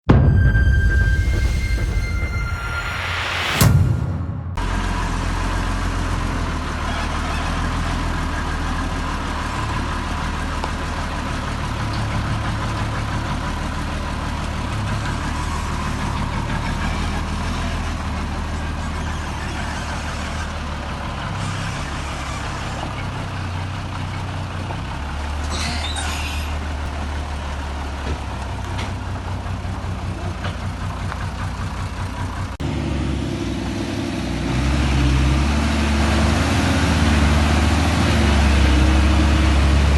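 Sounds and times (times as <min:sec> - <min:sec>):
heavy diesel engine running: 0:04.4 - 0:39.9.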